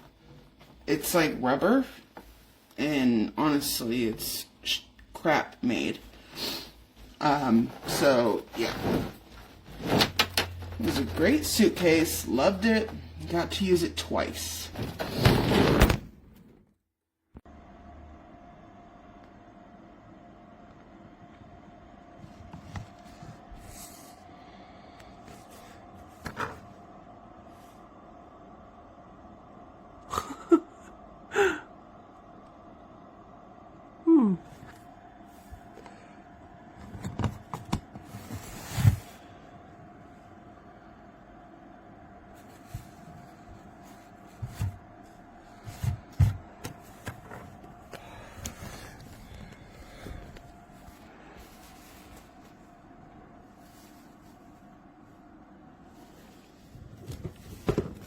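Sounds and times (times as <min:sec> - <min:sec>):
steady low hum: 0:00.0 - 0:16.5, 0:17.4 - 0:58.0.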